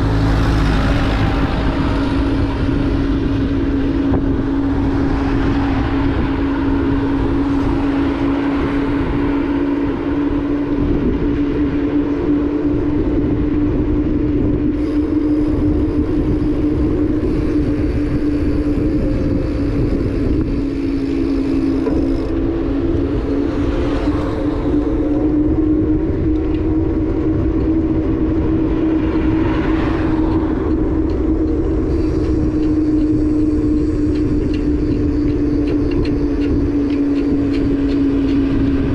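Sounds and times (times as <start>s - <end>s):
motorbike engine cruising: 0.0s - 38.9s
wind rushing over microphone: 0.0s - 38.9s.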